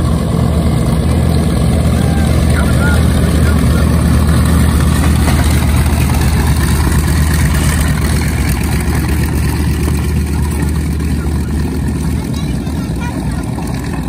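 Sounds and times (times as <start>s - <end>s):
aircraft radial engines throbbing: 0.0s - 14.0s.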